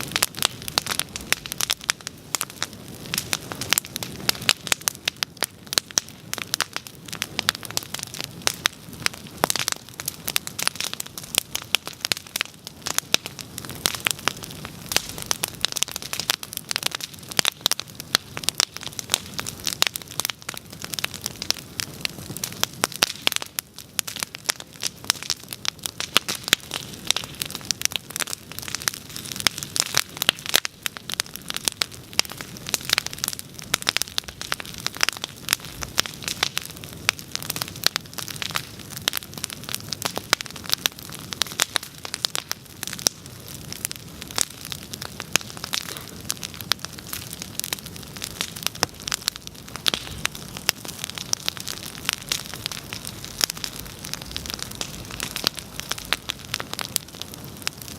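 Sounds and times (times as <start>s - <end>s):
bonfire crackling and popping: 0.0s - 57.9s.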